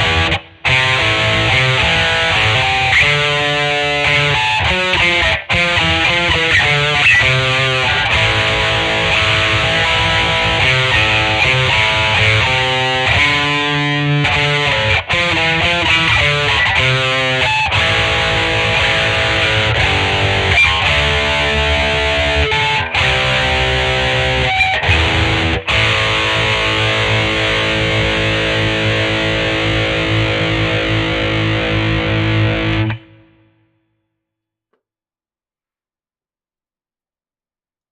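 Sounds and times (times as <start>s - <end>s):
distorted electric guitar riff: 0.0s - 33.6s.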